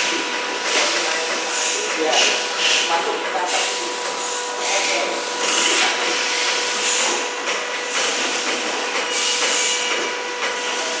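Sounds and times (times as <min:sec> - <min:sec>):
machine hissing: 0:00.0 - 0:11.0
machine humming: 0:00.0 - 0:11.0.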